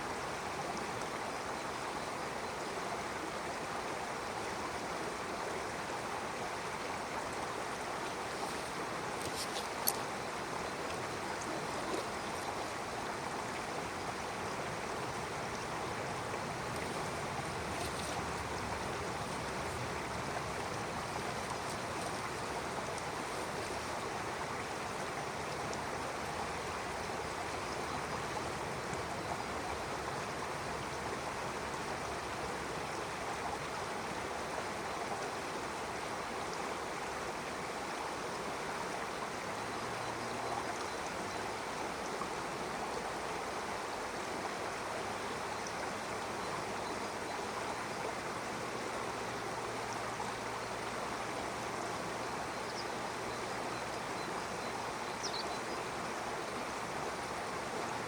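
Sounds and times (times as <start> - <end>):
stream water flowing and splashing: 0.0 - 58.0.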